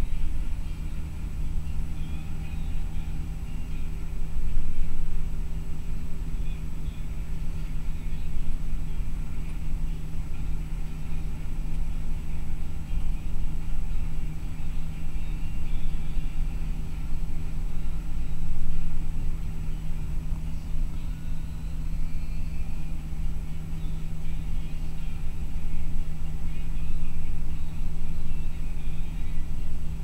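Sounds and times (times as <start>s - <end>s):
bus engine and road noise: 0.0s - 30.0s
constant low hum: 0.0s - 30.0s.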